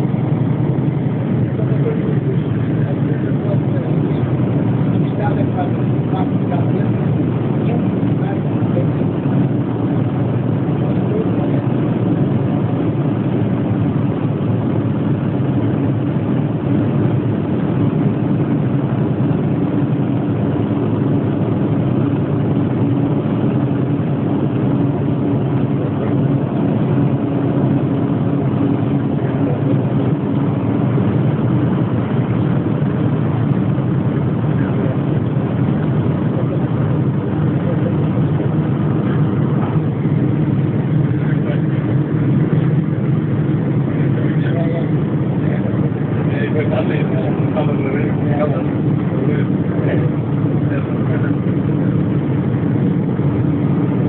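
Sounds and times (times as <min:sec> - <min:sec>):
low hum: 0:00.0 - 0:54.0
train rumbling: 0:00.0 - 0:54.0.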